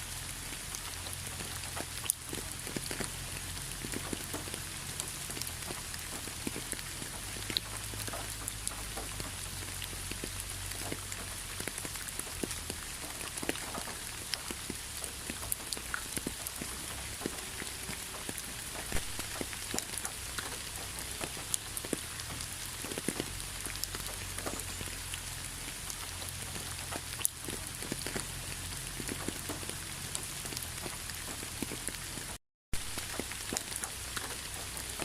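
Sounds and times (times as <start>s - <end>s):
steady rain falling: 0.0s - 35.0s
raindrops ticking: 0.1s - 35.0s.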